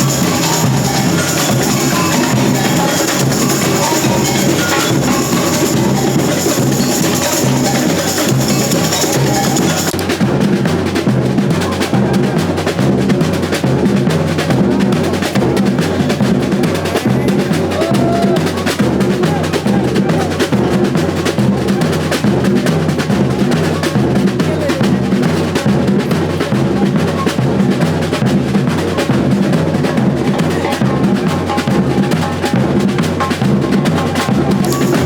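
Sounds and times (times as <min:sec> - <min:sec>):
loud busy drumming: 0:00.0 - 0:35.0.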